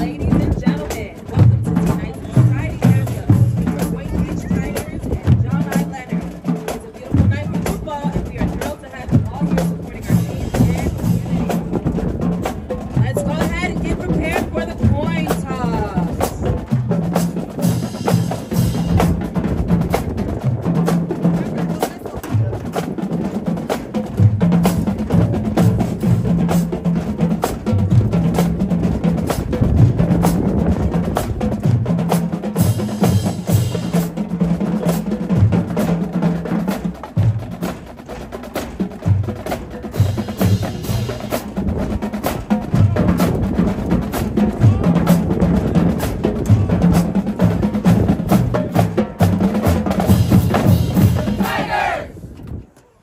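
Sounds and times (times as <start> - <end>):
pitched bass drum notes: 0.0 - 51.9
snare and tenor drums: 0.0 - 52.5.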